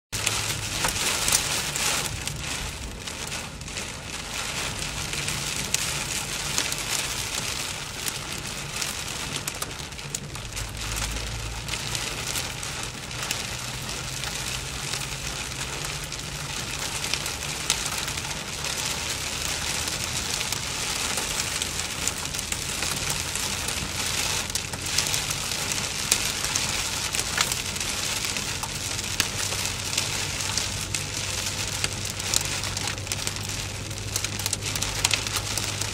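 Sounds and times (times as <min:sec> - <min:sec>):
rain on car roof: 0:00.1 - 0:35.9
car engine and tyres droning: 0:00.2 - 0:35.9.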